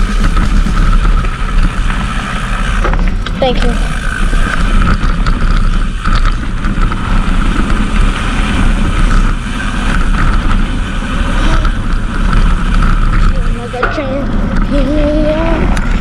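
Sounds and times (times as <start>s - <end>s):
bike clicks and rattles: 0.0s - 16.0s
bike rolling over dirt: 0.0s - 16.0s
wind rumble on microphone: 0.0s - 16.0s.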